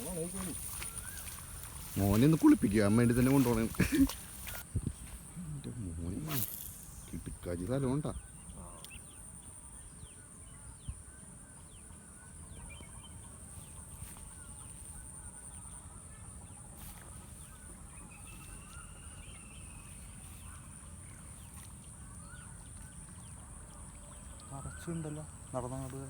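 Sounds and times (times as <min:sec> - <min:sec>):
bird calls: 0:00.0 - 0:04.7, 0:06.0 - 0:26.0
steady high-pitched hiss: 0:00.0 - 0:26.0.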